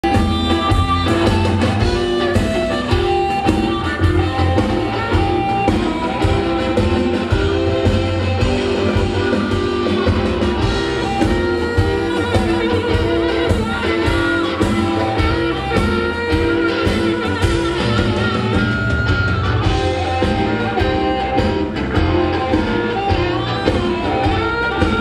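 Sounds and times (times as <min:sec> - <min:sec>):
amplified guitar: 0:00.0 - 0:25.0
live blues band playing: 0:00.0 - 0:25.0.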